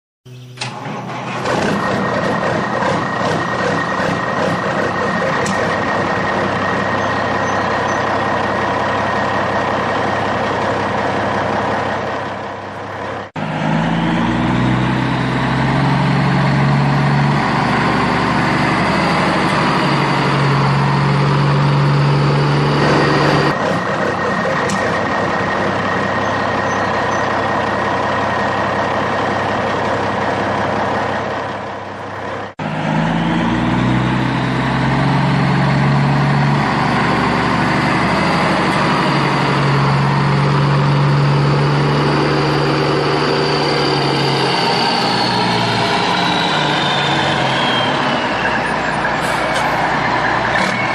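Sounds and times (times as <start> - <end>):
deep engine with rising whine: 0.3 - 50.9.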